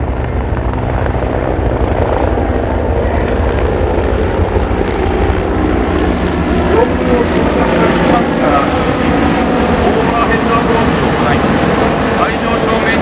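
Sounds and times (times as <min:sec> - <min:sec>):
helicopters flying overhead: 0:00.0 - 0:13.0.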